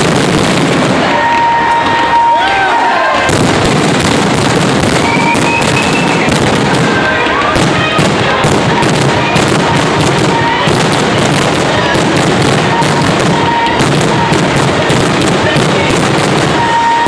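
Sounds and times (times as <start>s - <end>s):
firework whistles: 0.0s - 17.0s
fireworks bangs and crackle: 0.0s - 17.0s.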